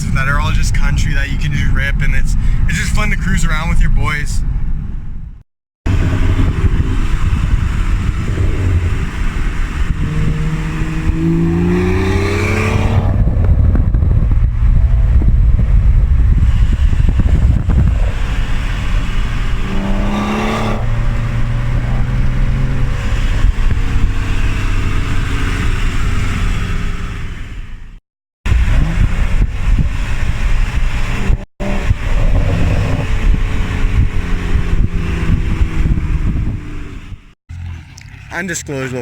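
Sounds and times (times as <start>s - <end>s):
car engine accelerating: 5.9s - 39.0s.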